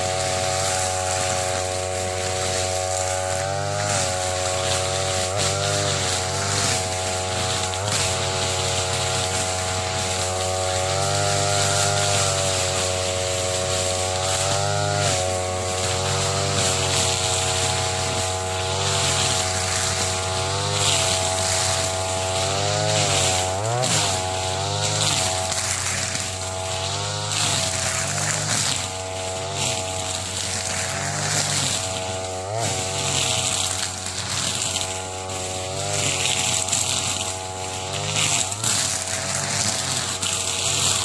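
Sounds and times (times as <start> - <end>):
brush cutter cutting grass: 0.0 - 41.0.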